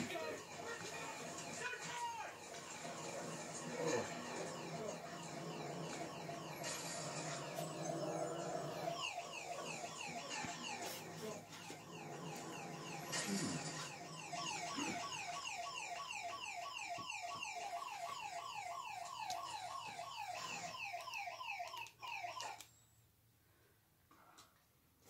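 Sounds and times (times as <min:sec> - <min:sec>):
electronic alarm whooping: 0:00.0 - 0:21.6.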